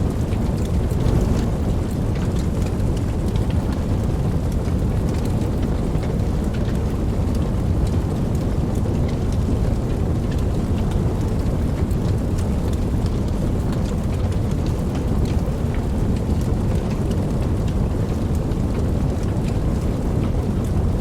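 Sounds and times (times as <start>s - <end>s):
rain drops ticking: 0.0s - 21.0s
steady rain: 0.0s - 21.0s.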